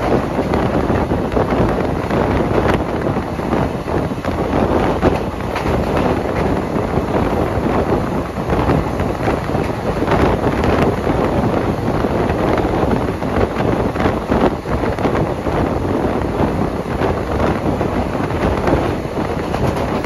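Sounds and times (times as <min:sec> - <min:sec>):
train wheels rumbling on track: 0:00.0 - 0:20.0
wind buffeting microphone: 0:00.0 - 0:20.0.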